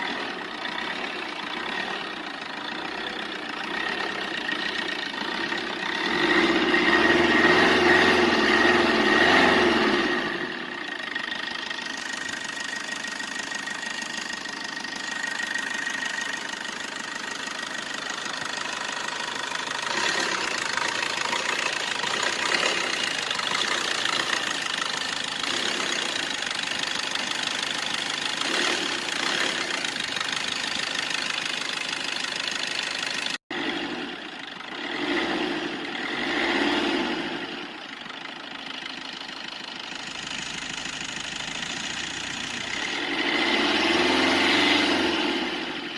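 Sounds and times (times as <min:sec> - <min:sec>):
vehicle engine running and revving: 0:00.0 - 0:38.1, 0:39.9 - 0:45.9.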